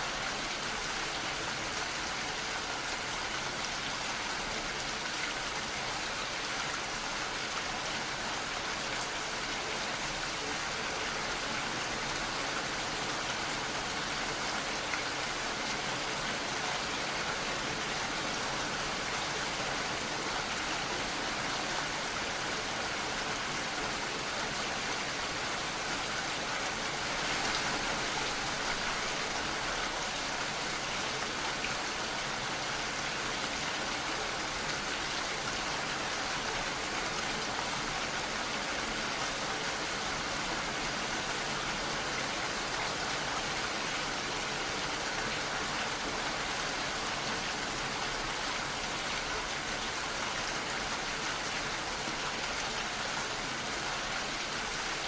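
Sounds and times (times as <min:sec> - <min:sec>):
dense rainfall hiss: 0:00.0 - 0:55.0.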